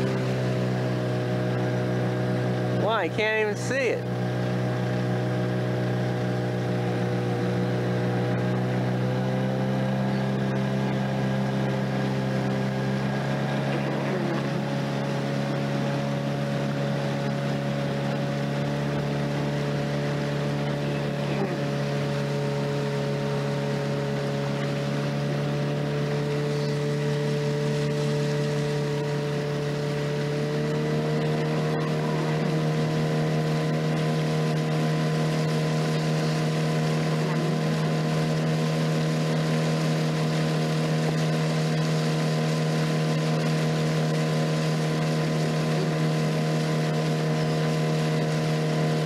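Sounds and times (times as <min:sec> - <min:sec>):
outboard motor running: 0:00.0 - 0:49.0.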